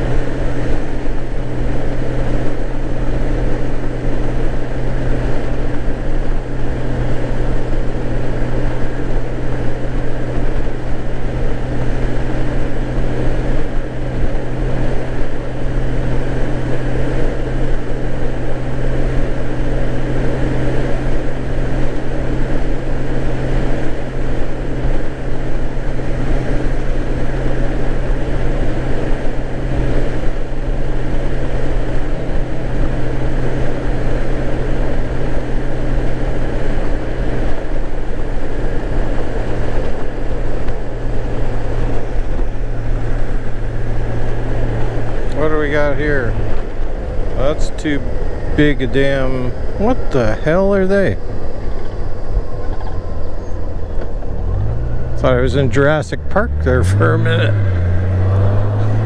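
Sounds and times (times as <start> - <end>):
wind rumbling on microphone: 0.0 - 56.8
motorcycle engine hum: 0.0 - 59.0.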